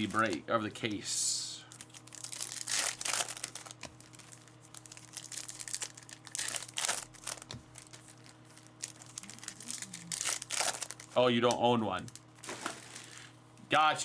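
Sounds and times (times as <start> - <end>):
plastic wrapping crinkling and tearing: 0.0 - 0.4, 1.7 - 13.3
faint steady hum: 0.0 - 14.0.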